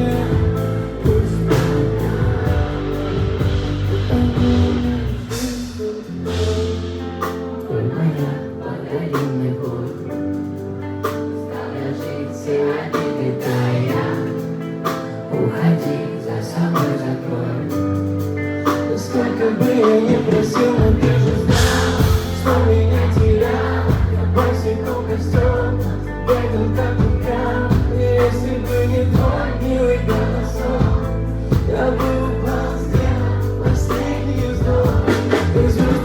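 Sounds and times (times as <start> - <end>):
live pop band with singing: 0.0 - 36.0.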